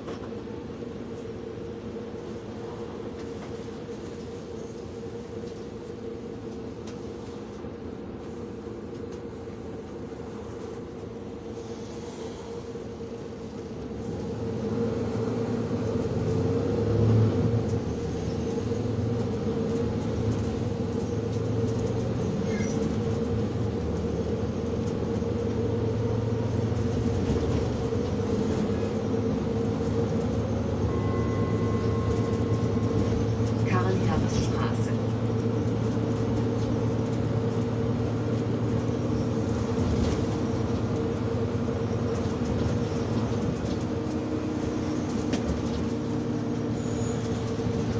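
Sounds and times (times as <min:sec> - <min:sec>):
vehicle rumbling with humming tone: 0:00.0 - 0:47.9.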